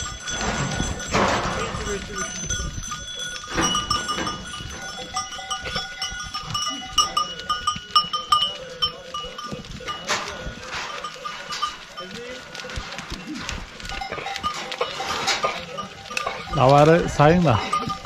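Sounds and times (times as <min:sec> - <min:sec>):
animal neck bells clinking: 0:00.0 - 0:18.0.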